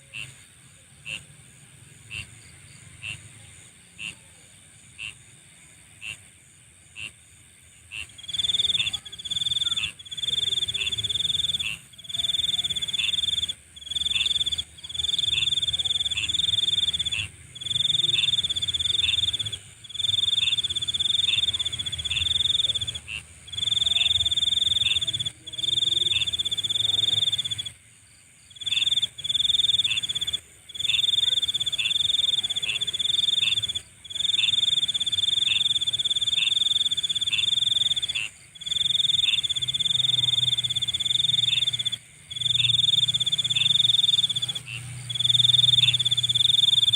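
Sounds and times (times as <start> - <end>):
insect chirps: 0.0 - 46.9
steady high-pitched insect buzz: 0.0 - 46.9
loud pulsing insect trills: 7.9 - 46.9.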